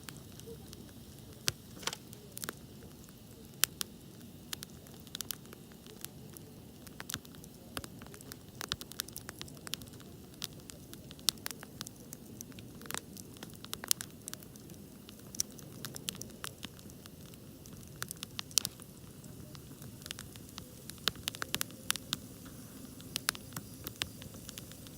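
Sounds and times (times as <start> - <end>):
campfire crackling and popping: 0.0 - 24.9
low rush of flames: 0.0 - 24.9.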